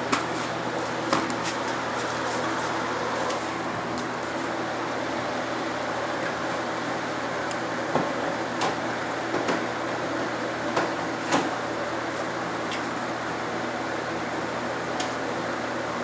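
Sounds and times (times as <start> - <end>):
fan hum: 0.0 - 16.0.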